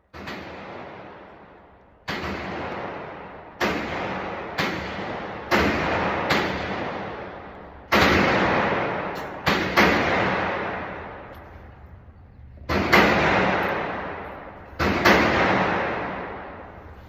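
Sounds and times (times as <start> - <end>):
gunshots with echo: 0.0 - 11.6, 12.6 - 17.0.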